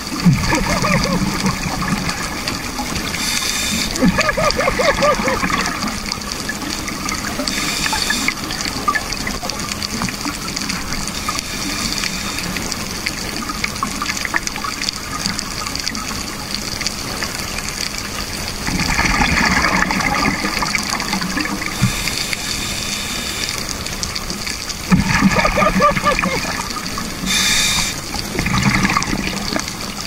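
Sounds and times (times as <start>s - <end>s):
underwater exhaust bubbles: 0.0s - 30.0s.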